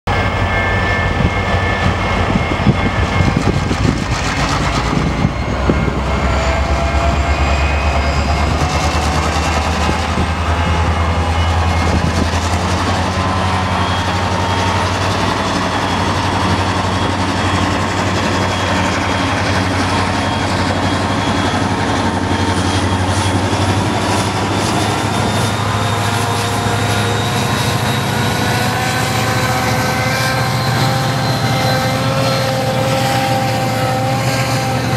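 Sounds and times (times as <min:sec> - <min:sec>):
diesel locomotive engine drone: 0:00.0 - 0:34.9
whining tones: 0:00.1 - 0:34.9.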